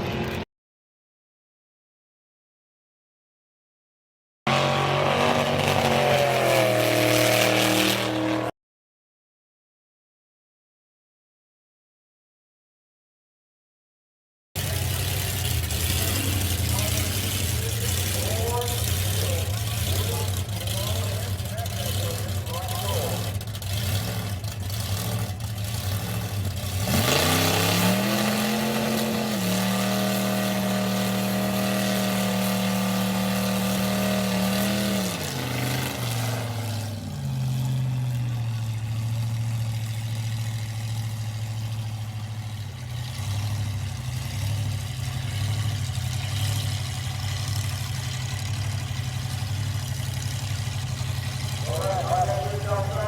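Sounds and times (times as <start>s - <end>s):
drag car engine revving: 4.5s - 8.5s, 14.6s - 53.0s.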